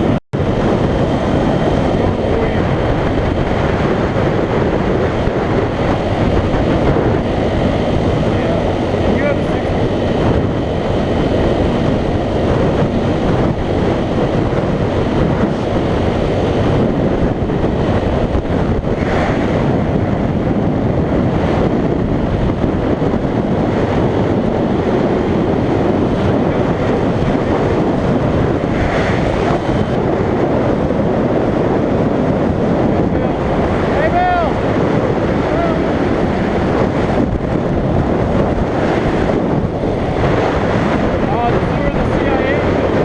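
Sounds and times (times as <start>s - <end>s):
motorcycle engine: 0.0s - 43.0s
wind rushing over microphone: 0.0s - 43.0s.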